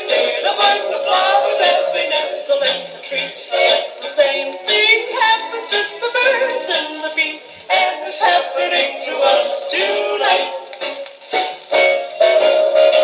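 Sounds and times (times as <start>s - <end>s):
pop music from vinyl record: 0.0s - 13.0s.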